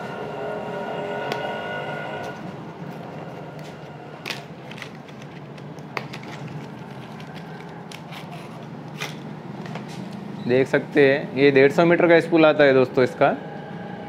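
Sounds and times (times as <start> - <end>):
steady background drone: 0.0 - 14.0.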